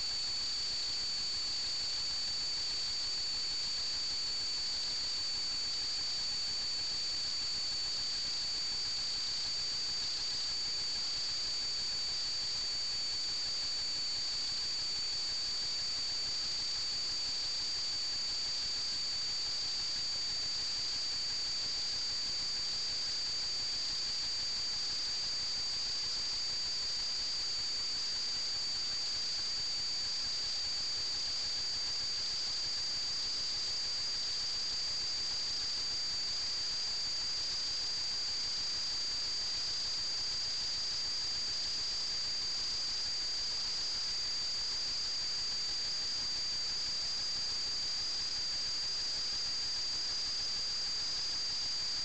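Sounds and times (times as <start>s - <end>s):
constant high-pitched whine: 0.0s - 52.0s.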